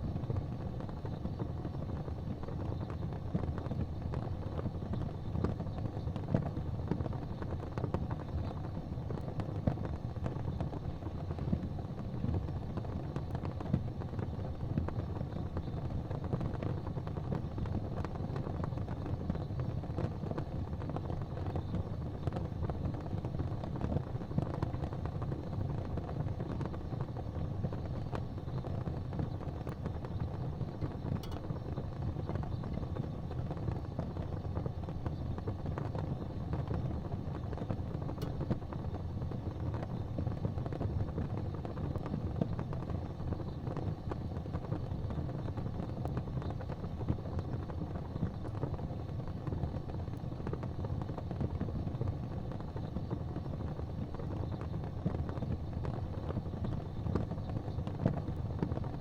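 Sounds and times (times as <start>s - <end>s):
fire crackles: 0.0s - 59.0s
fireplace fire rumbling: 0.0s - 59.0s.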